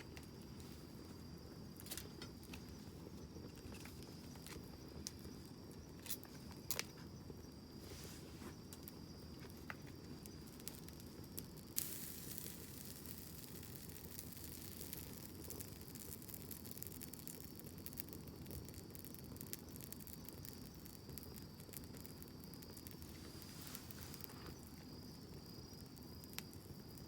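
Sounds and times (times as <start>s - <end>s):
campfire flames rumbling: 0.0s - 27.0s
fire crackles and pops: 0.0s - 27.0s
steady hiss: 0.0s - 27.0s.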